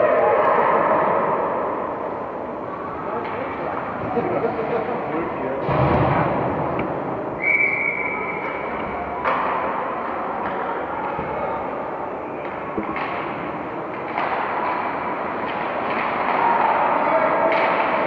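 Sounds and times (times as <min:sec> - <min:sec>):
arena noise: 0:00.0 - 0:18.0.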